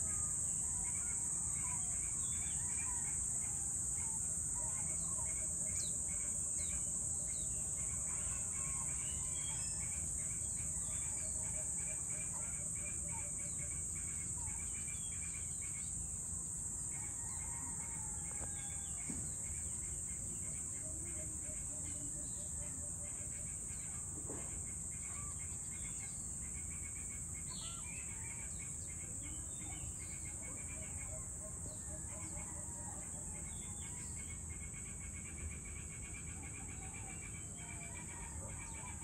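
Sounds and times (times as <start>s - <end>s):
high-pitched insect drone: 0.0s - 39.0s.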